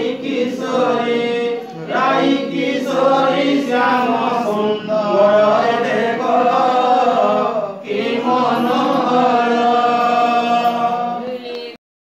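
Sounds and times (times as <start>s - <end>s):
voices chanting devotional song: 0.0s - 11.8s.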